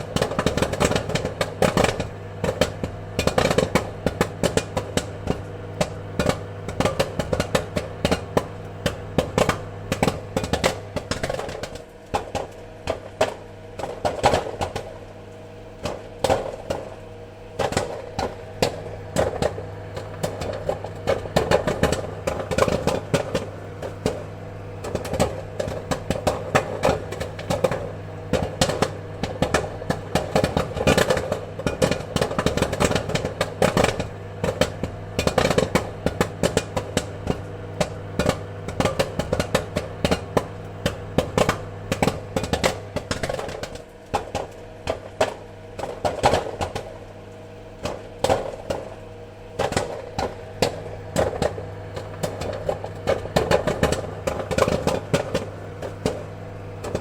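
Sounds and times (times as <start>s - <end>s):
popcorn popping: 0.0s - 57.0s.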